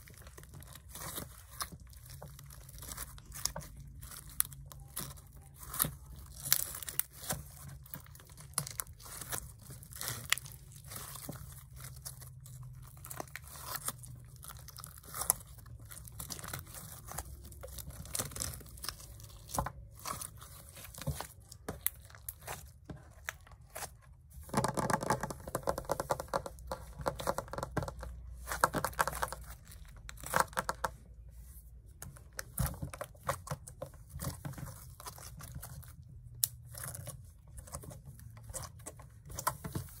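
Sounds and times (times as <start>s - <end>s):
slime crackling and popping: 0.0s - 31.2s, 32.2s - 40.0s.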